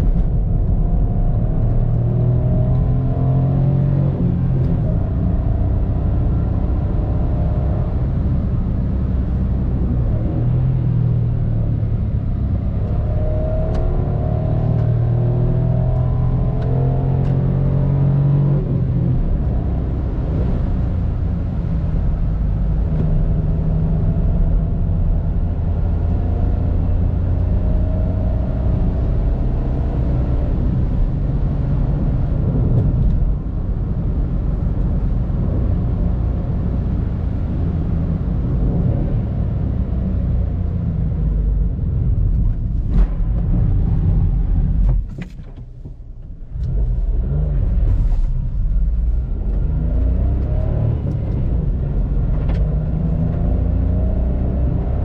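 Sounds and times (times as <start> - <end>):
car engine pulling at road speed: 0.0 - 55.0
tyre and road noise: 0.0 - 55.0.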